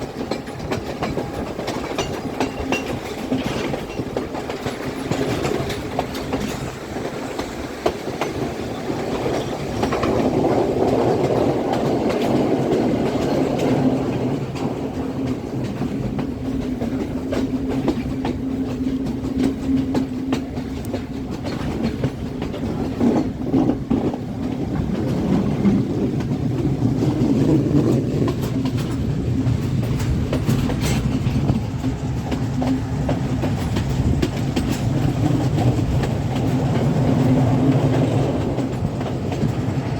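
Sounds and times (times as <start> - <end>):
train rumbling on rails: 0.0 - 39.9
wheels clicking over rail joints: 0.0 - 39.9.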